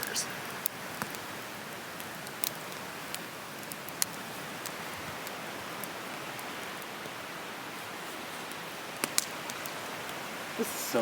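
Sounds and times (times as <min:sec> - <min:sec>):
campfire hissing: 0:00.0 - 0:11.0
fire crackles and pops: 0:00.0 - 0:11.0.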